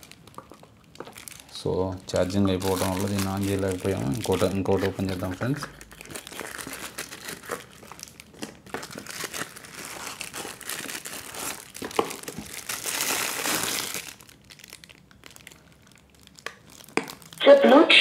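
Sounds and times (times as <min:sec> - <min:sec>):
packaging crinkling and rustling: 0:00.0 - 0:17.4.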